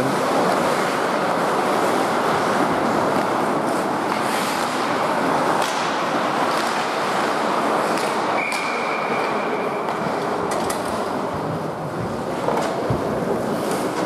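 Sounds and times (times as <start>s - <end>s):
skates on ice: 0.0s - 14.0s.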